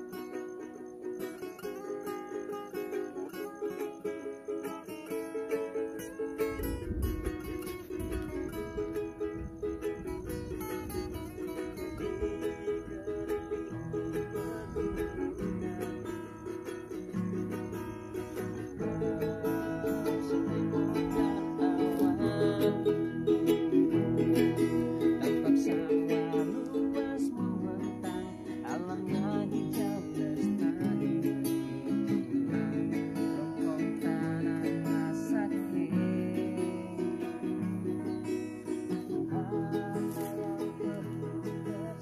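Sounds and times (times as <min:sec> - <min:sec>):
ukulele and acoustic guitar strumming: 0:00.0 - 0:42.0.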